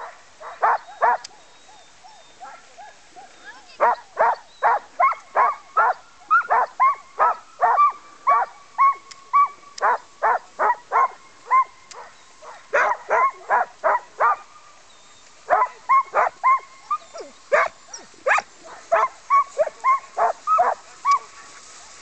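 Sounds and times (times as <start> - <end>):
dogs barking: 0.0 - 1.4, 3.8 - 14.5, 15.5 - 21.6.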